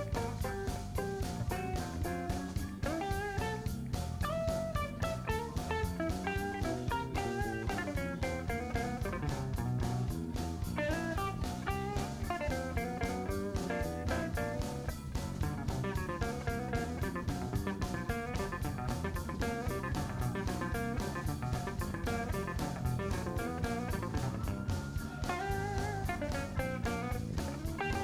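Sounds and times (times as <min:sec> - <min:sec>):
bass guitar: 0:00.0 - 0:28.0
drum kit steady beat: 0:00.0 - 0:28.0
electric guitar lead melody: 0:00.0 - 0:28.0.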